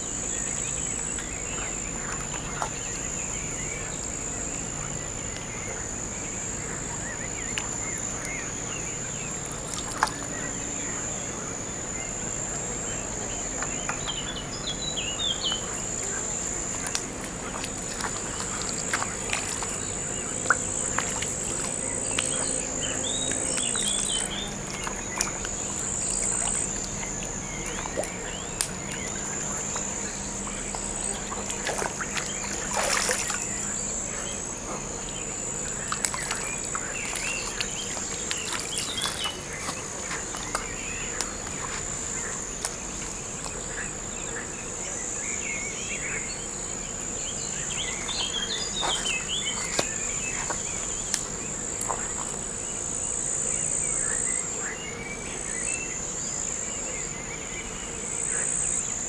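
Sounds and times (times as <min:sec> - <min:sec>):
small splashes: 0:00.0 - 0:11.3, 0:12.9 - 0:44.4, 0:46.8 - 0:54.7
insects trilling: 0:00.0 - 0:59.0.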